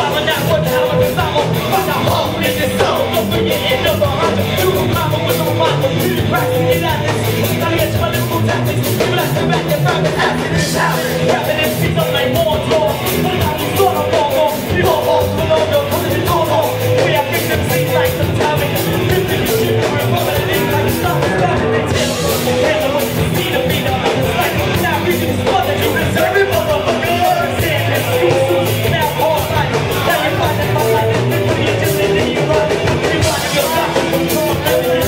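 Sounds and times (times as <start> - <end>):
bass: 0.0 - 35.0
distorted electric guitars: 0.0 - 35.0
drums: 0.0 - 35.0
person singing: 0.0 - 35.0.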